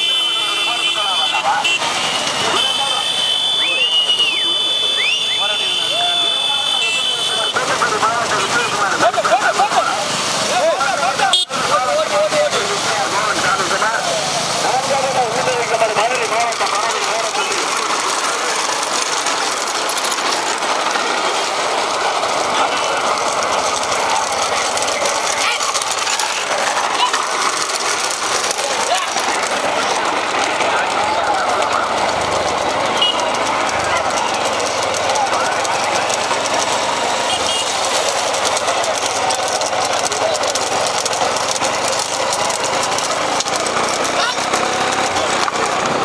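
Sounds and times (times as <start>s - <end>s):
cart wheels rattling: 0.0s - 46.0s
motor engines running: 0.0s - 46.0s
rushing noise: 0.0s - 46.0s
voices: 0.0s - 46.0s.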